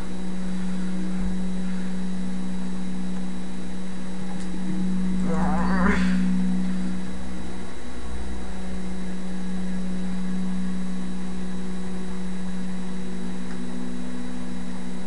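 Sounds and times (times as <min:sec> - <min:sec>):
constant hiss: 0:00.0 - 0:15.0
electrical hum: 0:00.0 - 0:15.0.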